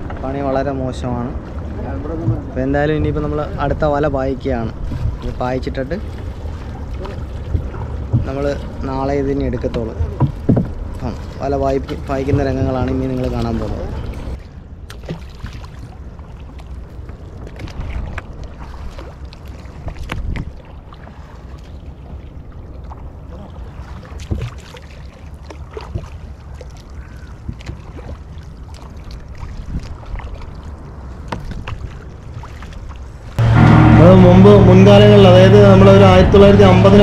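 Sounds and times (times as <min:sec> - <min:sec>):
boat engine rumble: 0:00.0 - 0:37.0.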